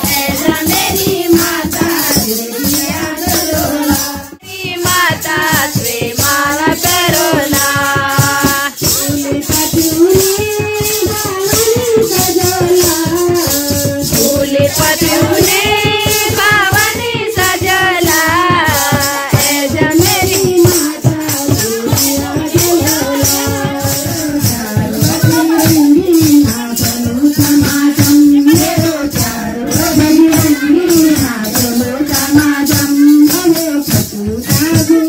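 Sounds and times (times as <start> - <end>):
devotional singing: 0.0 - 35.0
hand percussion beat: 0.0 - 35.0
rattling shakers: 0.0 - 35.0.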